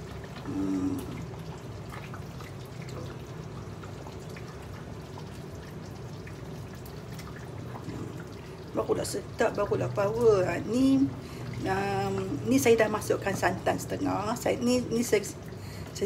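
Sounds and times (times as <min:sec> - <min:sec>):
broth sloshing and dripping: 0:00.0 - 0:16.0
low steady hum: 0:00.0 - 0:16.0.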